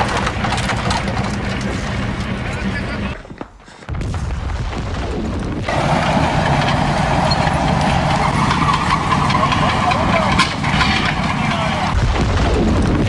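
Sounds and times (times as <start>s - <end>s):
rattling clatter: 0.0s - 3.4s, 5.7s - 13.0s
tank engine rumble: 0.0s - 13.0s.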